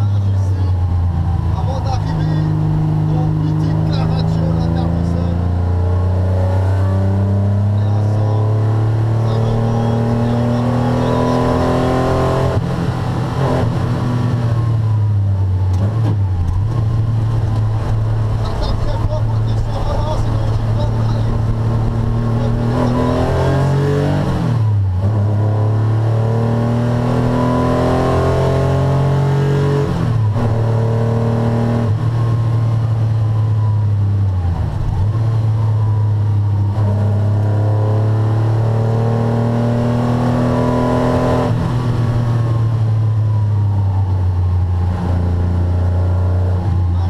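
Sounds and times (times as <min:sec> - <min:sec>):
car engine revving from cabin: 0:02.1 - 0:15.0, 0:15.7 - 0:43.4, 0:44.7 - 0:47.0.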